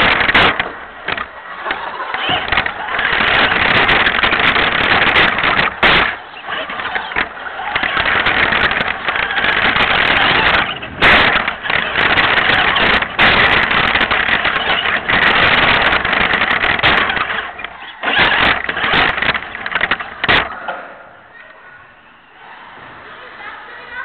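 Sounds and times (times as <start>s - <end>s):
remote-control car wheels rattling: 0.0s - 21.0s
sharp knocks from bumps: 0.0s - 21.0s.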